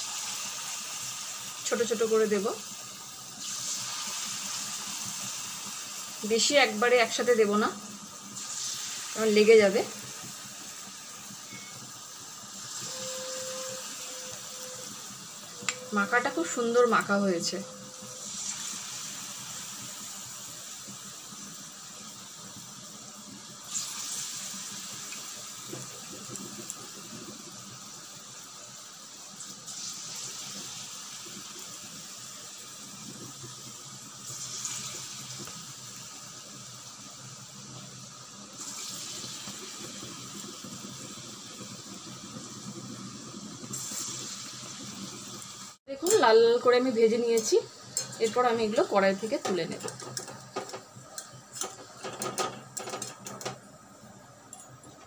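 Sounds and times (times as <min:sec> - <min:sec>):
batter sizzling in hot oil: 0:00.0 - 0:55.0.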